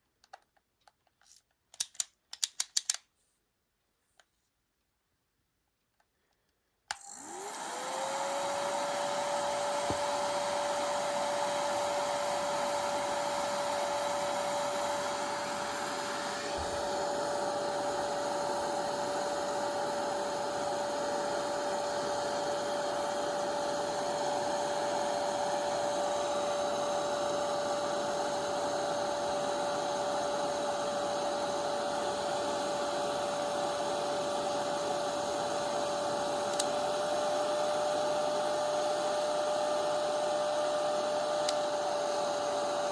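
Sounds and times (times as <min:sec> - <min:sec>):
hair dryer blowing: 0:07.0 - 0:42.9.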